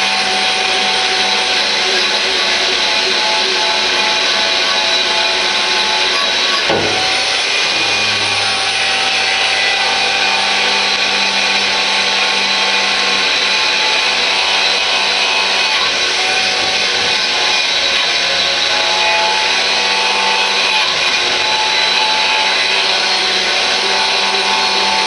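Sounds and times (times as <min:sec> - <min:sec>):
power tool stripping paint: 0:00.0 - 0:25.0.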